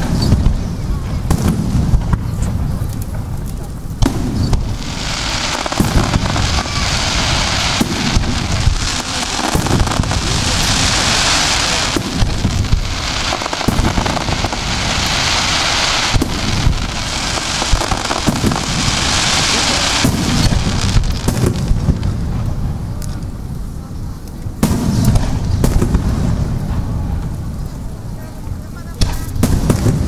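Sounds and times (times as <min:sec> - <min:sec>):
firework shell booms: 0:00.0 - 0:03.3, 0:04.0 - 0:23.0, 0:24.6 - 0:27.2, 0:29.0 - 0:30.0
dense firework crackling: 0:00.0 - 0:30.0.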